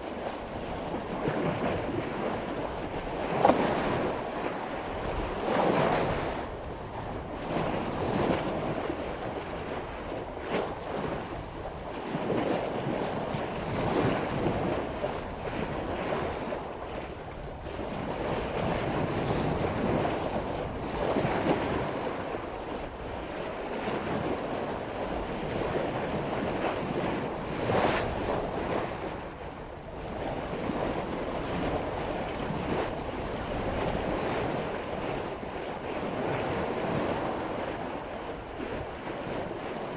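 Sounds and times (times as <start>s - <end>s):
sea water splashing along hull: 0.0s - 39.9s
wind on microphone: 0.0s - 39.9s.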